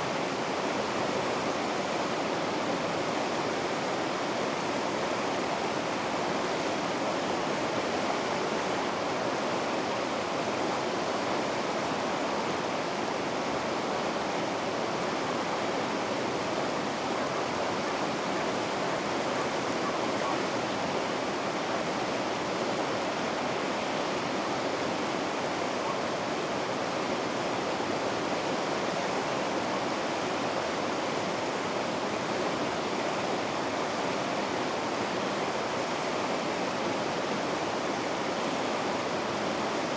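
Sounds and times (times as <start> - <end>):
water rushing over rapids: 0.0 - 39.9.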